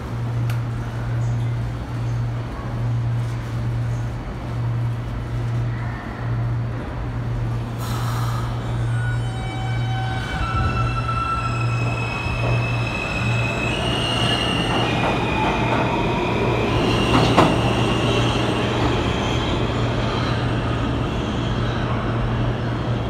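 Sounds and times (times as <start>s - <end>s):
subway train motors whining: 0.0s - 23.0s.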